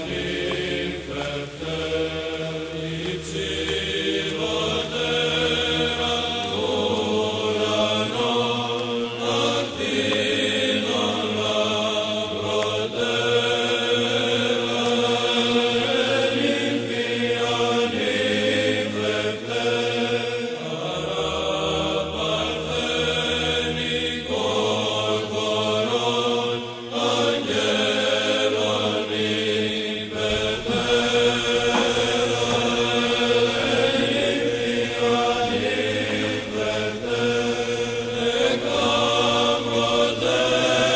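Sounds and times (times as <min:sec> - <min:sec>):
chanting voices: 0:00.0 - 0:40.9.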